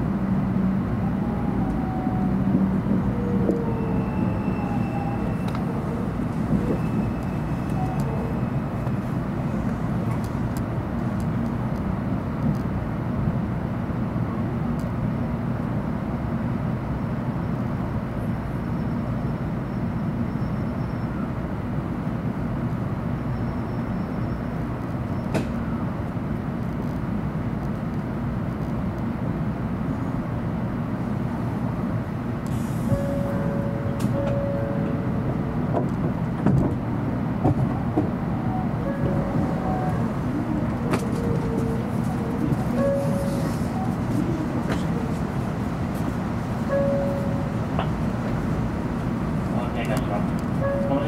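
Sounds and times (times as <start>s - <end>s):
train interior hum and rumble: 0.0s - 51.0s.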